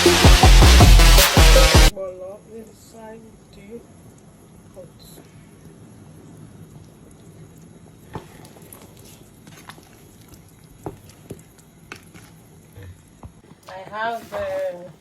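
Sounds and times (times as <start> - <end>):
low background hum: 1.9 - 15.0.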